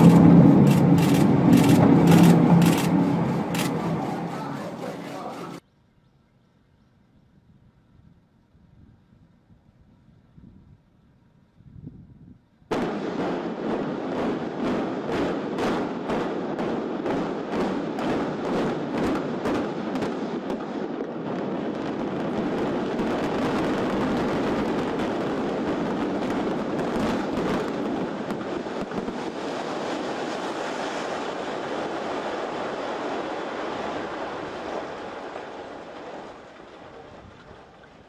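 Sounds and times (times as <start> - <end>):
building collapse rumble: 0.0 - 5.6, 12.7 - 38.0.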